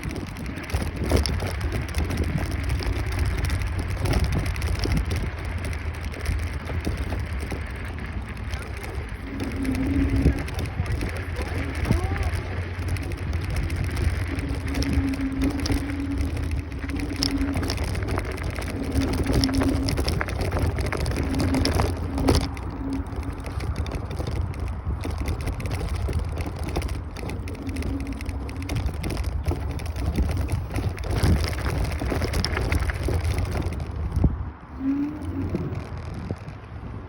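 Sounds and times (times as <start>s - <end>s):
low hum: 0.0s - 37.0s
small rattles: 0.0s - 37.0s
tyre noise: 0.0s - 37.0s
wind rumble on microphone: 0.0s - 37.0s.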